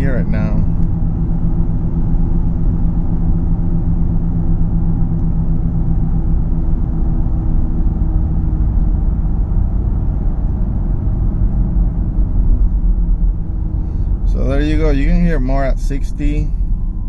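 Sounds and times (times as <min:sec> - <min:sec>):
car cabin hum and road rumble: 0:00.0 - 0:17.0.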